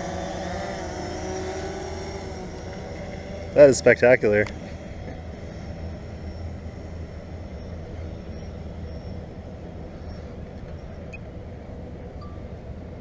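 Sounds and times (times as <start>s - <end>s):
distant traffic: 0.0s - 13.0s
faint wavering high whine: 0.0s - 13.0s.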